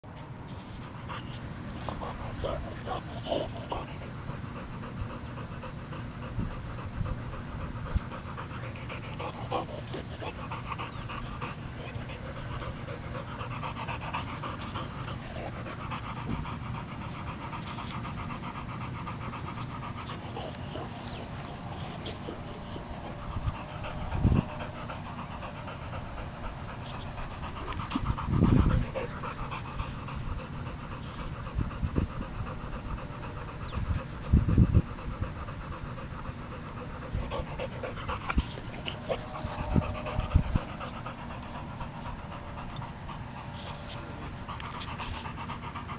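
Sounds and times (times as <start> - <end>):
dog panting: 0.2 - 45.9.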